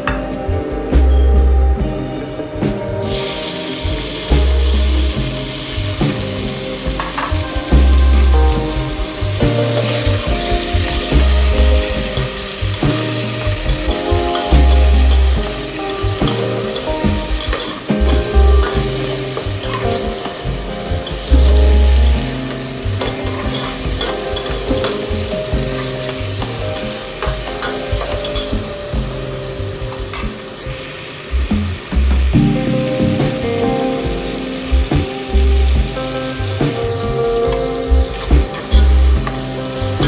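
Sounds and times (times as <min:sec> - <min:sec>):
tomatoes sizzling in hot oil: 0:03.0 - 0:40.0.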